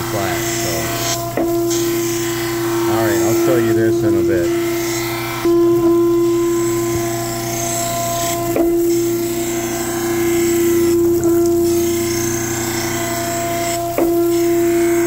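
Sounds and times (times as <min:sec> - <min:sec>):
coolant hissing and splashing: 0:00.0 - 0:15.0
grinder machine tone: 0:00.0 - 0:15.0.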